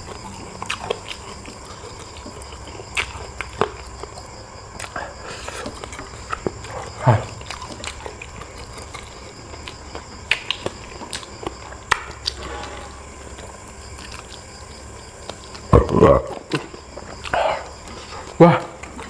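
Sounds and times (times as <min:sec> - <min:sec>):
wet chewing and lip-smacking: 0:00.0 - 0:12.5, 0:13.2 - 0:19.0.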